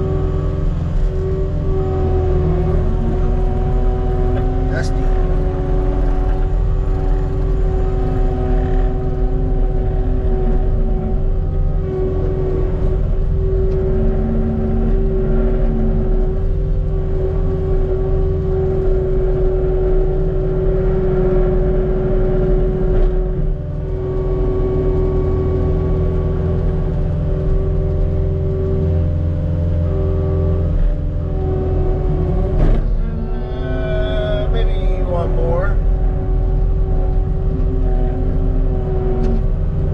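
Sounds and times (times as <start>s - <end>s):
diesel engine rumble: 0.0s - 39.9s
hydraulic whine: 0.0s - 39.9s.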